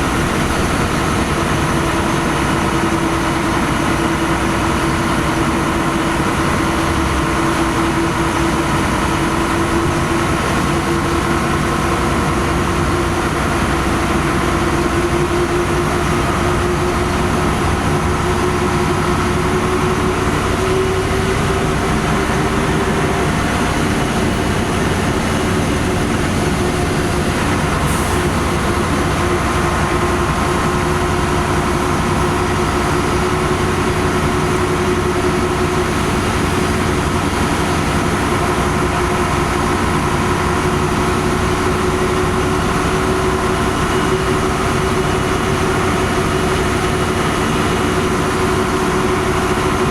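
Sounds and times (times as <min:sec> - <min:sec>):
bus diesel engine running: 0:00.0 - 0:49.9
road noise: 0:00.0 - 0:49.9.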